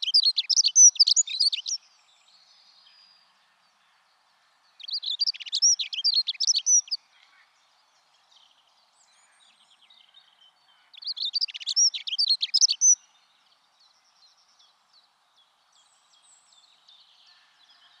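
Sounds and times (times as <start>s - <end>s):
faint bird chirps: 0.0s - 18.0s
songbird singing: 0.0s - 18.0s.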